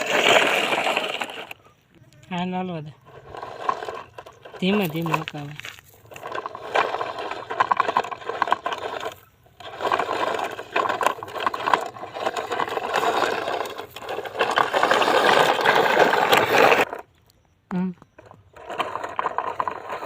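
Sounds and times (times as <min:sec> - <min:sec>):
plastic toy truck rattling and scraping: 0:00.0 - 0:20.0.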